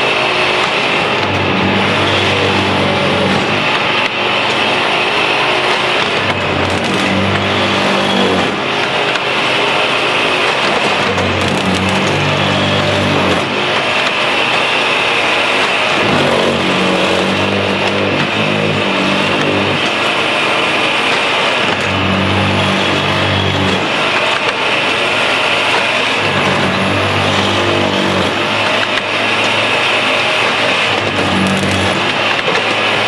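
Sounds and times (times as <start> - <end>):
track machine engine and hydraulics: 0.0 - 33.0.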